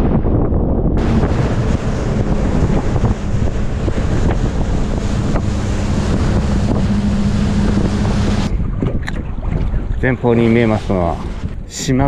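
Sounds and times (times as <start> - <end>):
outboard engine hum: 0.0 - 12.0
water rushing along hull: 0.0 - 12.0
wind buffeting microphone: 0.0 - 12.0.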